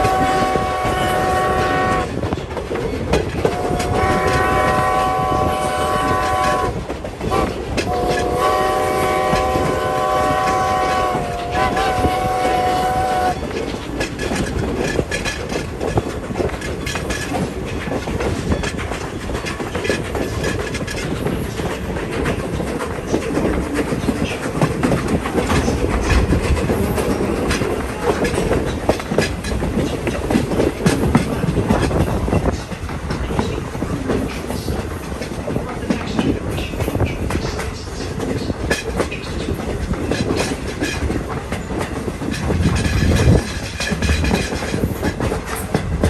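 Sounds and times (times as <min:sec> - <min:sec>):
train rumble and rattle: 0:00.0 - 0:46.0
wheels clicking over rail joints: 0:00.0 - 0:46.0.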